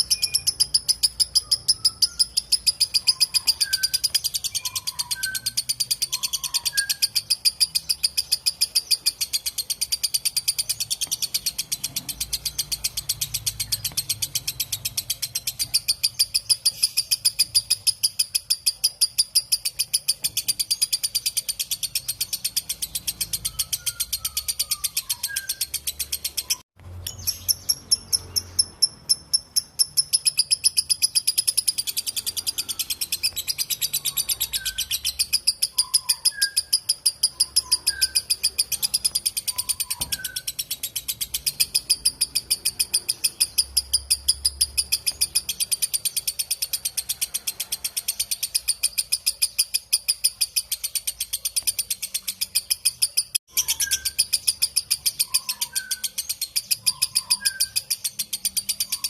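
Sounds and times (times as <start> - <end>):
lovebird high-pitched trill: 0.0 - 59.0.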